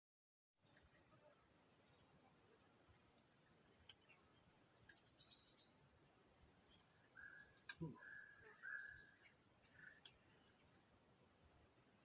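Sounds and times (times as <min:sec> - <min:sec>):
insects trilling: 0:00.6 - 0:12.0.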